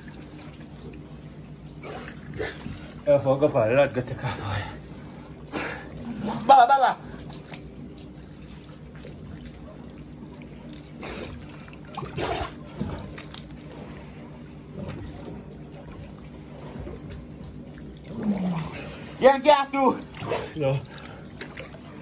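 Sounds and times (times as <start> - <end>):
steady low hum: 0.0 - 22.0
water sloshing and splashing: 0.0 - 22.0.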